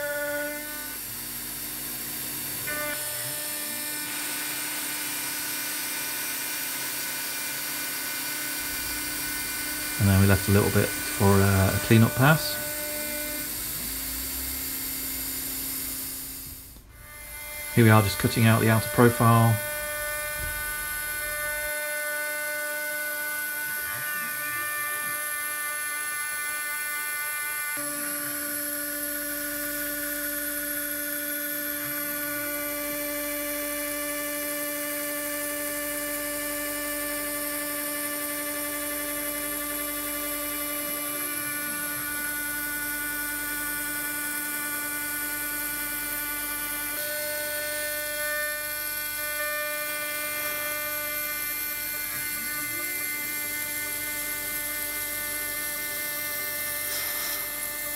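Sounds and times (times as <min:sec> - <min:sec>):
milling machine spindle whine: 0:00.0 - 0:57.9.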